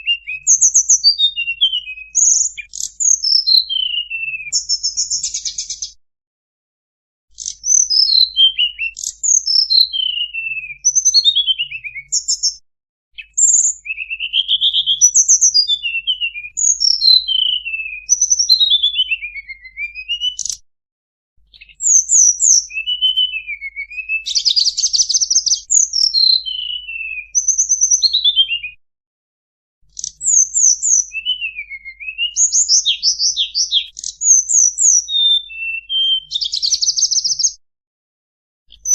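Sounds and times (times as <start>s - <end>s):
bamboo bird whistle calls: 0.0s - 6.0s, 7.4s - 12.6s, 13.2s - 20.6s, 21.6s - 28.8s, 29.9s - 37.6s.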